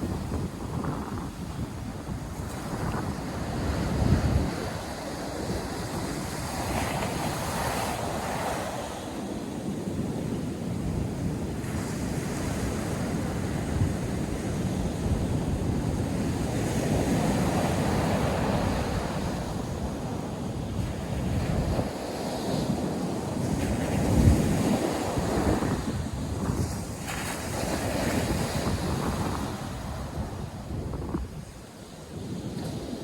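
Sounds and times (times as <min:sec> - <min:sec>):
surf breaking and washing: 0:00.0 - 0:33.0
wind buffeting microphone: 0:00.0 - 0:33.0.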